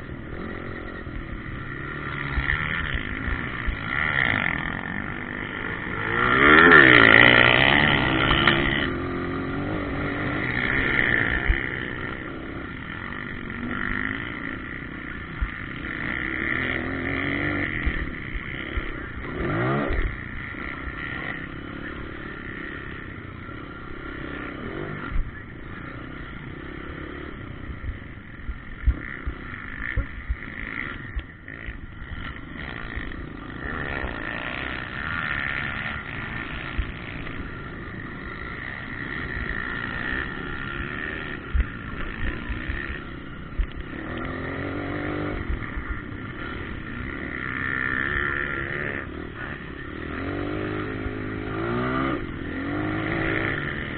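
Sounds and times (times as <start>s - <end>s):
bike accelerating past: 0.0s - 53.9s
motocross bike engines revving: 0.0s - 53.9s.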